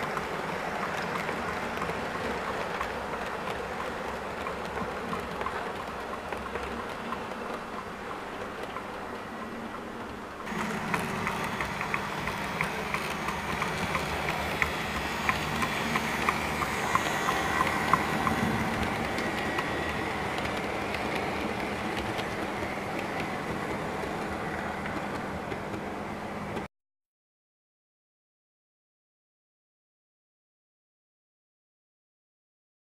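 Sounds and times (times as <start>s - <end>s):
model train wheels rumbling: 0.0s - 26.7s.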